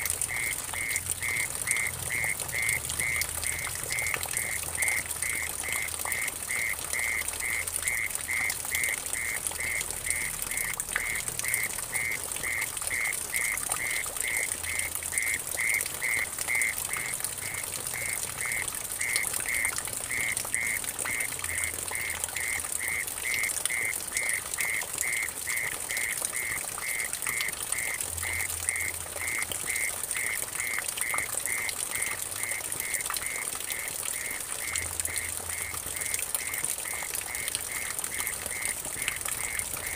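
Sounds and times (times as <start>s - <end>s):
water dripping into puddle: 0.0s - 39.9s.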